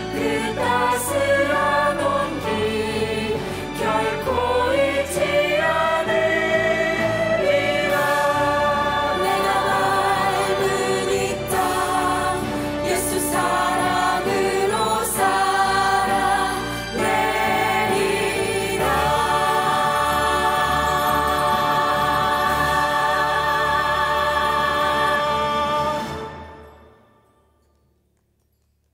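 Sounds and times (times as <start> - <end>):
choir singing: 0.0 - 27.2
musical backing: 0.0 - 28.9.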